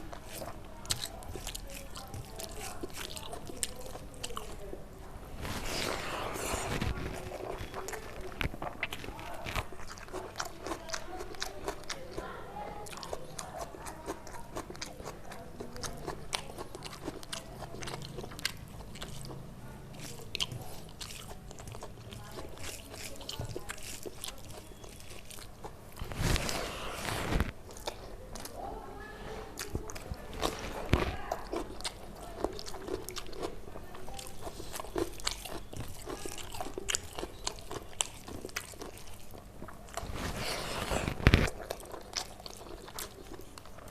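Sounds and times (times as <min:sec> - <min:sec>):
person chewing and biting food: 0:00.0 - 0:04.6, 0:05.4 - 0:12.1, 0:12.9 - 0:28.6, 0:29.6 - 0:43.9.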